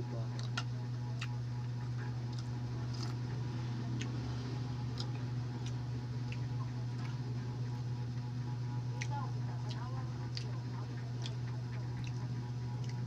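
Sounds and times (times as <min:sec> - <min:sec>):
low hum: 0:00.0 - 0:13.0
mouth chewing noises: 0:00.2 - 0:08.2, 0:08.8 - 0:13.0.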